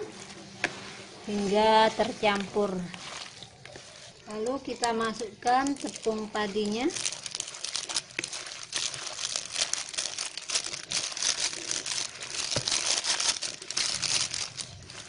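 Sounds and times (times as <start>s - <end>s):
plastic sachet crinkling: 2.2s - 15.0s.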